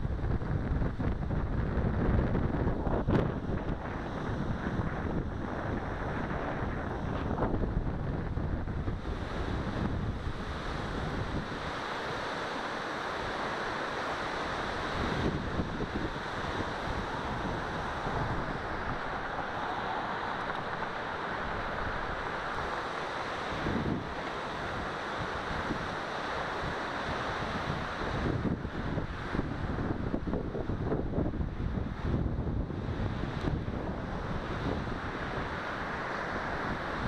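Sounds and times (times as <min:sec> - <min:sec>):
wind buffeting camera microphone: 0:00.0 - 0:37.0.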